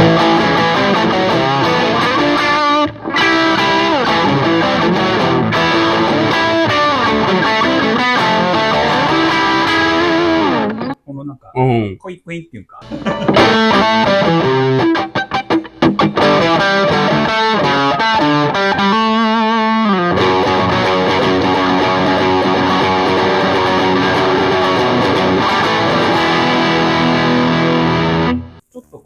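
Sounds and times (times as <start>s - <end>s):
electric guitar through amp: 0.0s - 11.0s, 12.8s - 28.6s.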